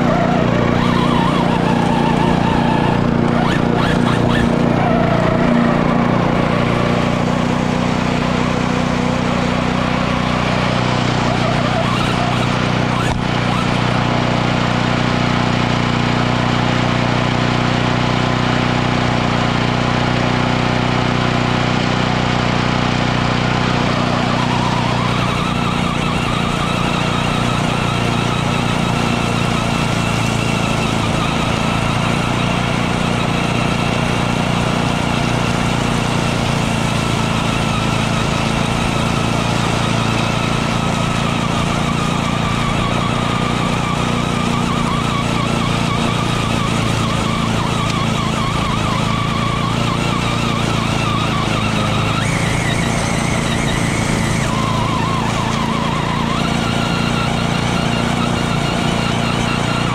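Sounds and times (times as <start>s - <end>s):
electric toy truck whine: 0.0s - 59.9s
lawnmower engine running: 0.0s - 59.9s.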